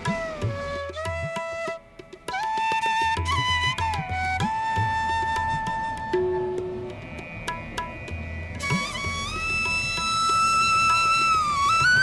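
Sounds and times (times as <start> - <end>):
flute holding long note: 0.0 - 6.8, 8.6 - 12.0.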